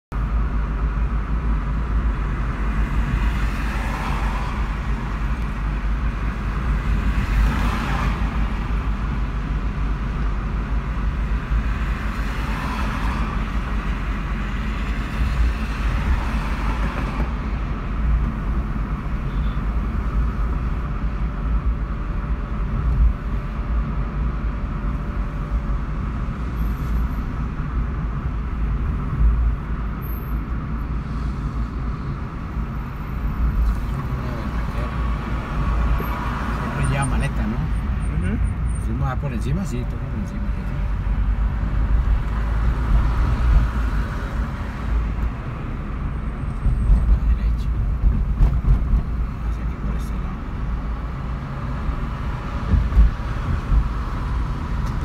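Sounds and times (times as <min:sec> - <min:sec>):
engine and tyre rumble: 0:00.1 - 0:55.0.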